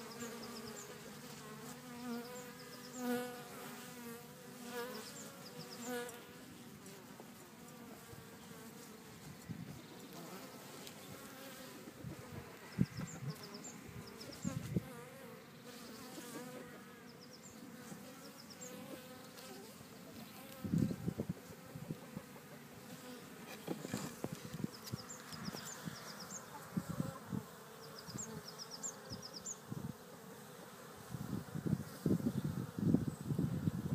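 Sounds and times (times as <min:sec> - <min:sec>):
honeybees buzzing: 0:00.0 - 0:33.9.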